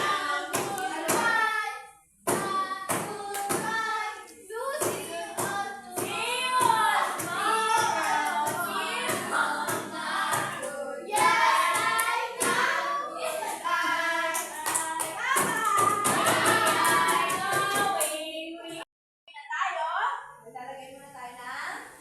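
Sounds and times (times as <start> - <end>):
hand claps keeping a beat: 0.0 - 18.3
children singing together: 0.0 - 18.8.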